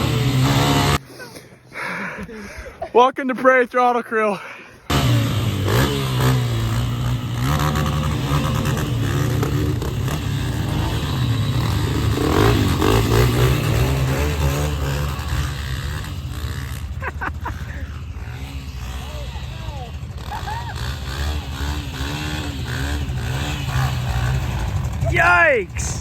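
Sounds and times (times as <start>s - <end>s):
dirt bike engine revving: 0.0s - 1.0s, 4.9s - 26.0s.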